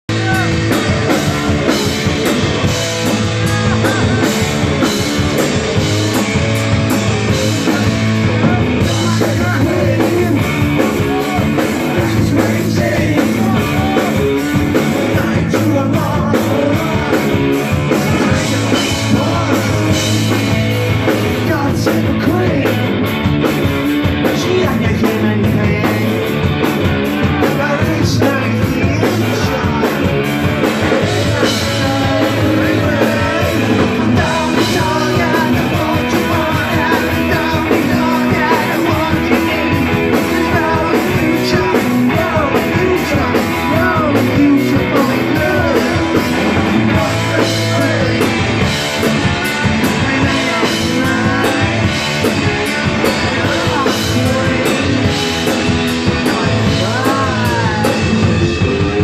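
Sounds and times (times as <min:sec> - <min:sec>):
bass guitar: 0:00.0 - 0:59.0
drum kit: 0:00.0 - 0:59.0
electric guitar: 0:00.0 - 0:59.0
man singing: 0:00.1 - 0:05.9, 0:06.9 - 0:23.2, 0:24.0 - 0:59.0.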